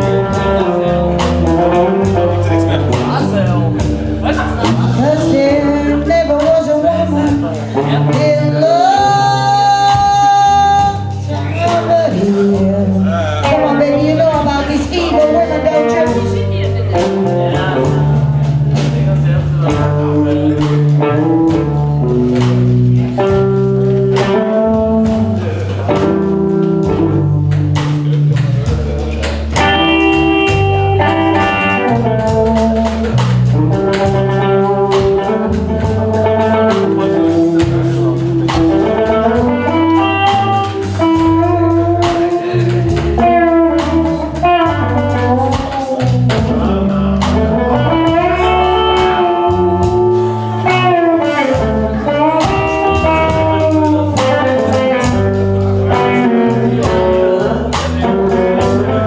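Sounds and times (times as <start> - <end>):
band accompaniment: 0.0 - 59.0
blues guitar: 0.0 - 59.0.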